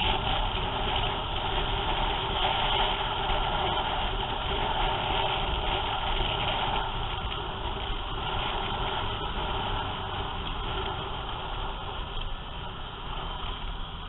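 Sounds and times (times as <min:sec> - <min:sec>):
motorcycle engines running: 0:00.0 - 0:14.0
road and wind noise: 0:00.0 - 0:14.0.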